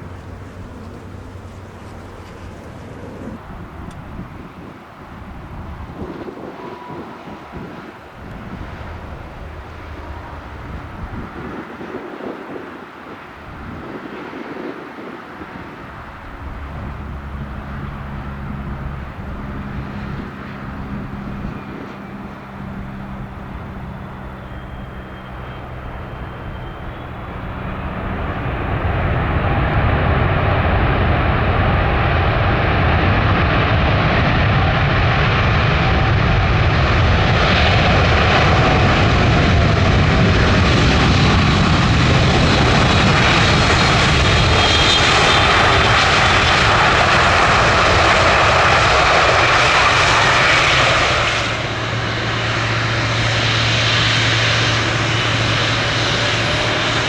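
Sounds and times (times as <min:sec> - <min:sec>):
airliner jet engines roaring: 0:00.0 - 0:57.0.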